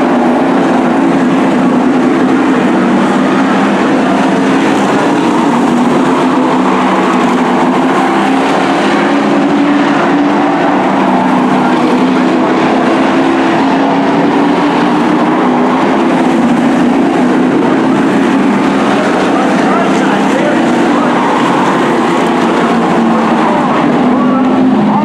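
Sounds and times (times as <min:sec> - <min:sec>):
race truck engines droning: 0:00.0 - 0:25.0.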